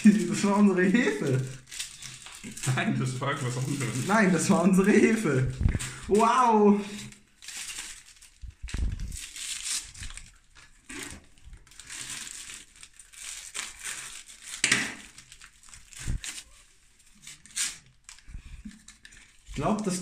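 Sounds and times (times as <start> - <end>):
paper sachets crinkling and tearing: 0.0 - 20.0.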